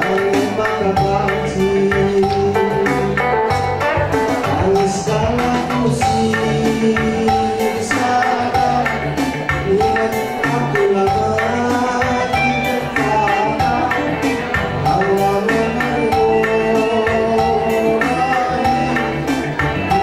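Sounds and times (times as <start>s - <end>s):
amplified band playing: 0.0s - 20.0s
man singing into a microphone: 0.0s - 20.0s.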